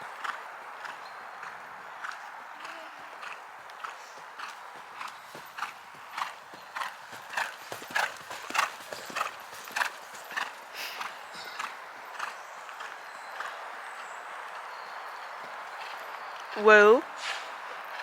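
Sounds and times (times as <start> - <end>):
horse hoofbeats: 0.2 - 16.7.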